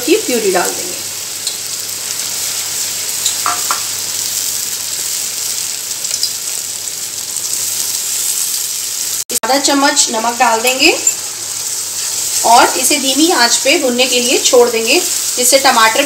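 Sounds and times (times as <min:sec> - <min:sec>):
masala sizzling in a pan: 0:00.0 - 0:16.0.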